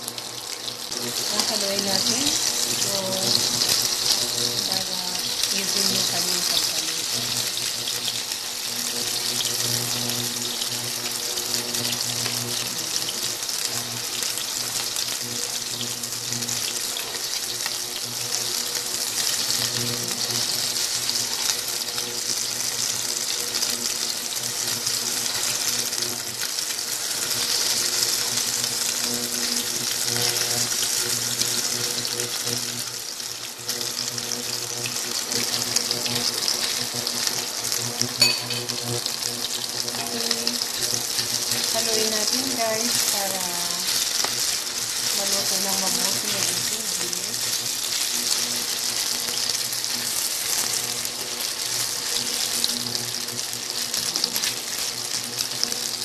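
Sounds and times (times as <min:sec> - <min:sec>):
beef sizzling in hot oil: 0:00.0 - 0:56.0.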